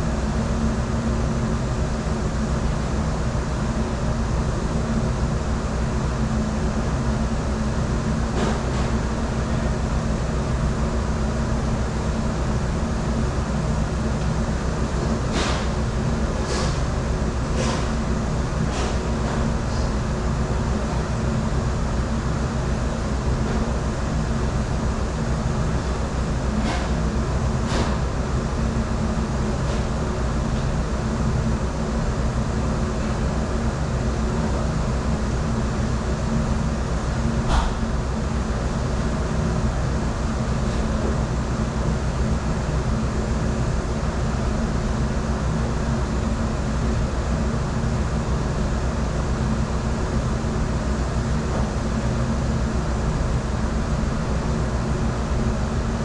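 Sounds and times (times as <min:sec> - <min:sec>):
dishwashing machinery humming: 0:00.0 - 0:56.0.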